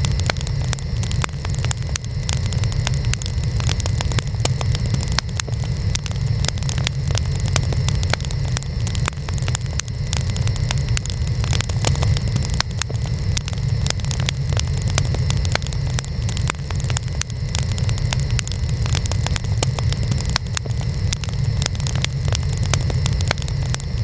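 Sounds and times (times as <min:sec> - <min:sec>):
steady low rumble: 0:00.0 - 0:24.0
wood fire crackling: 0:00.0 - 0:24.0.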